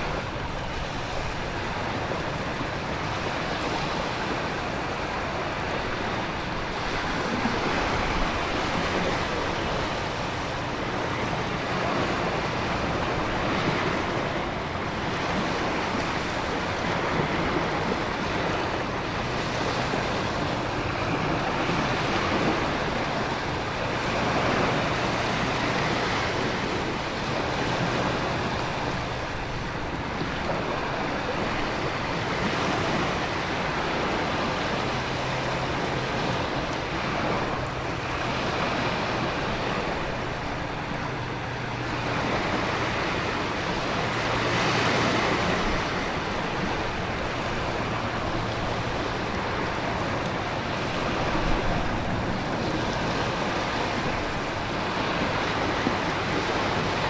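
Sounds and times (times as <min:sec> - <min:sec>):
ocean surf: 0:00.0 - 0:57.0
wind: 0:00.0 - 0:57.0.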